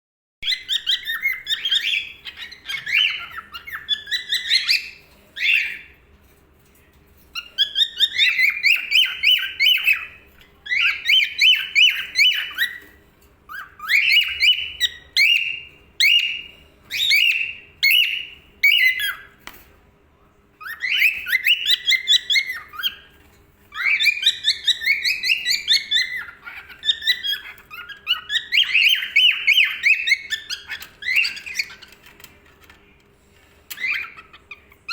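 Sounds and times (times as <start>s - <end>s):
cockatiel chirping and whistling: 0.4s - 5.9s, 7.3s - 19.3s, 20.6s - 23.1s, 23.7s - 32.2s, 33.7s - 34.9s.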